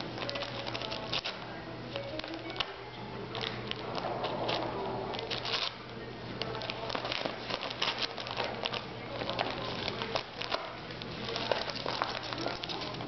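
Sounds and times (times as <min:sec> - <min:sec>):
wrapping paper crinkling and tearing: 0:00.0 - 0:02.6, 0:03.3 - 0:13.0.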